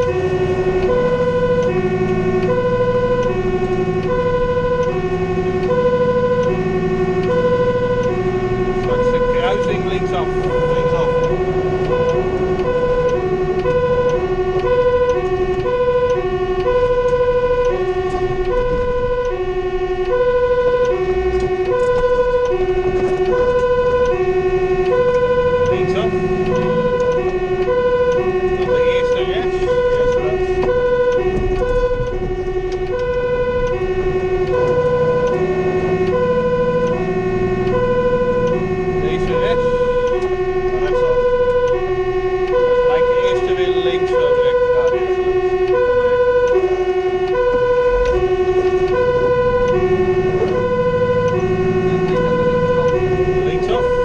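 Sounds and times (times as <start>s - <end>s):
fire engine two-tone siren: 0.0s - 54.0s
road noise: 0.0s - 54.0s
truck engine: 0.0s - 54.0s.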